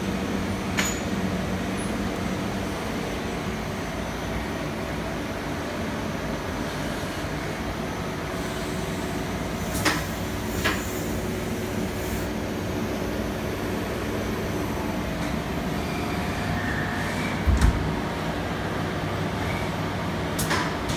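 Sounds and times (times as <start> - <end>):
workshop machinery humming: 0.0 - 20.9.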